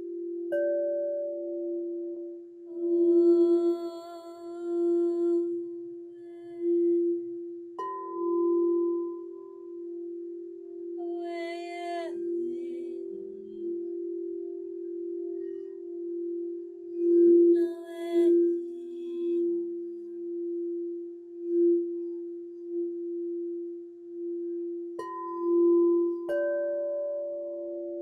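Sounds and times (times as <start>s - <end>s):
singing bowl ringing: 0.0s - 28.0s.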